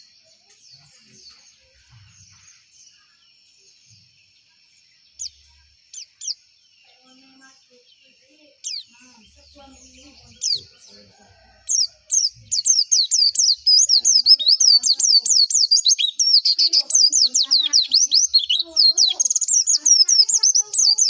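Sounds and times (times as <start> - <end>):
bird twittering song: 0.0 - 21.0.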